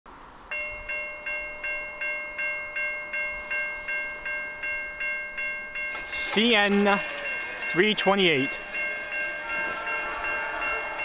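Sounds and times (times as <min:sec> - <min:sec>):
level crossing warning bell: 0:00.5 - 0:11.0.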